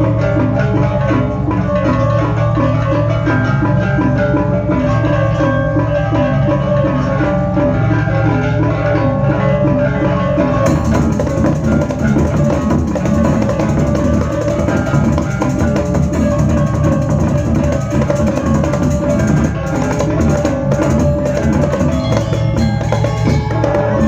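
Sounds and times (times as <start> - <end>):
bronze gongs and metallophones: 0.0 - 24.0
drums: 0.0 - 24.0.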